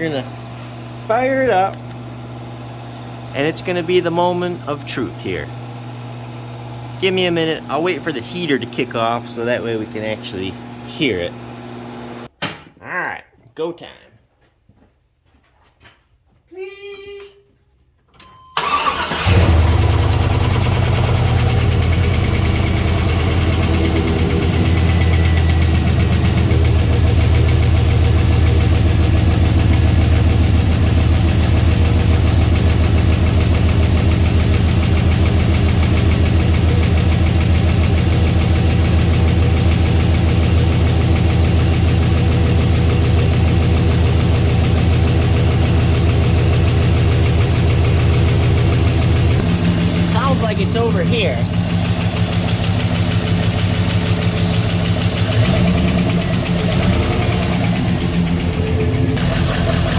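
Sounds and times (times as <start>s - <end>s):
engine idling: 0.0s - 12.3s, 18.6s - 59.9s.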